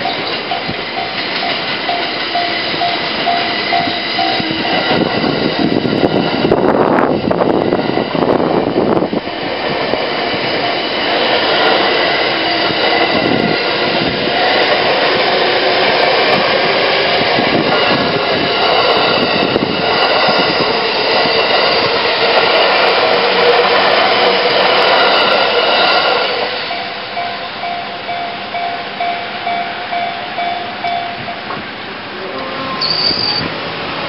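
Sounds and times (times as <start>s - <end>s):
level-crossing warning bell: 0.0s - 34.0s
train wheels and running gear: 0.0s - 34.0s.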